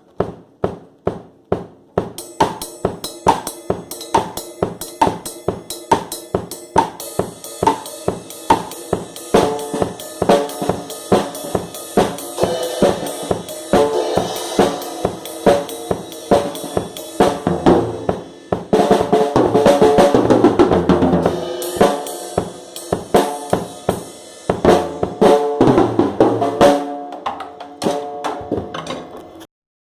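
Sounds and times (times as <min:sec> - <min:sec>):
drum kit playing: 0:00.0 - 0:29.4.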